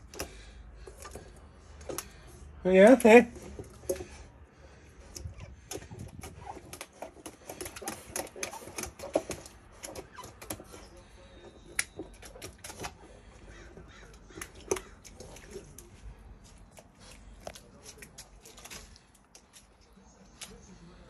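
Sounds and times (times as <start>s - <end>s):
puppy lapping water: 0.0s - 21.0s.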